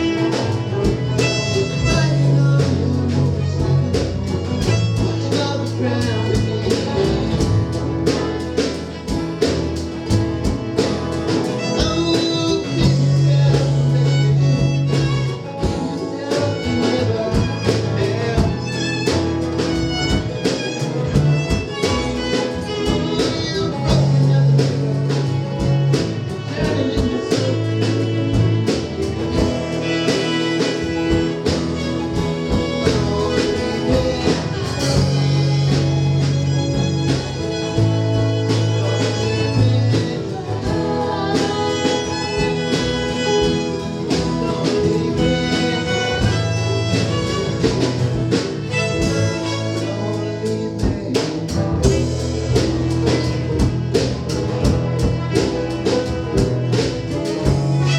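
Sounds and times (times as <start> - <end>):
bass line: 0.0 - 57.9
drum strikes: 0.0 - 57.9
fiddle: 0.0 - 57.9
guitar: 0.0 - 57.9.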